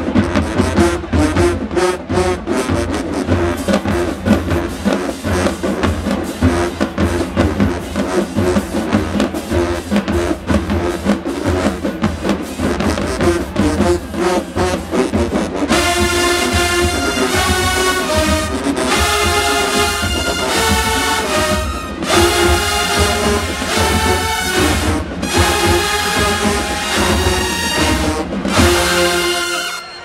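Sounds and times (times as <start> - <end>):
fast drumline beat: 0.0 - 30.0
marching band playing: 0.0 - 30.0.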